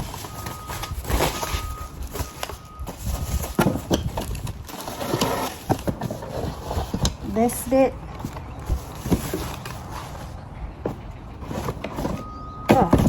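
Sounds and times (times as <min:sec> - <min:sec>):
cardboard box rustling: 0:00.0 - 0:13.0.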